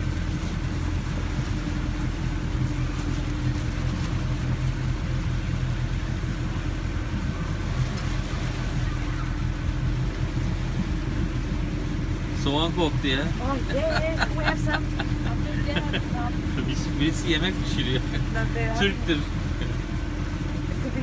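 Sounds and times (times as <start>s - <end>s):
motorboat engine droning: 0.0s - 21.0s
rush of water and air: 0.0s - 21.0s.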